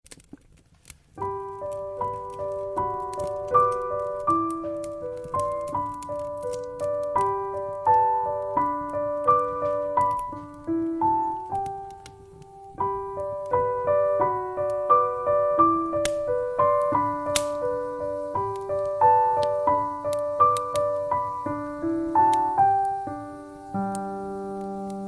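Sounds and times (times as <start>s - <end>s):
solo piano music: 1.0s - 25.0s.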